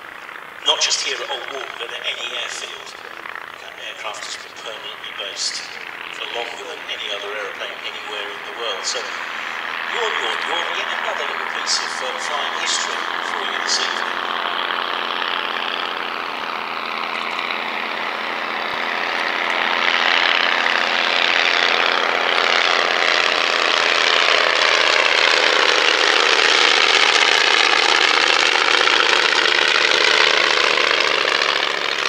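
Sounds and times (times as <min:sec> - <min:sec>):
biplane piston engines: 0:00.0 - 0:32.0.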